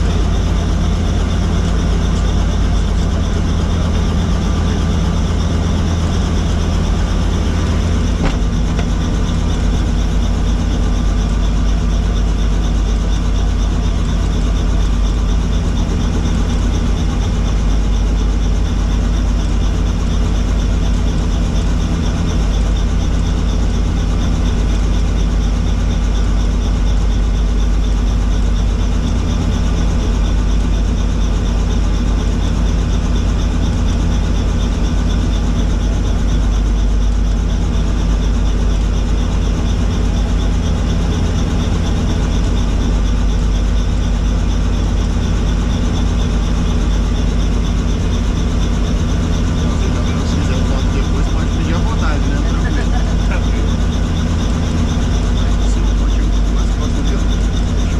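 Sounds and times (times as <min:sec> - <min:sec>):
helicopter rotor and engine: 0:00.0 - 0:57.9.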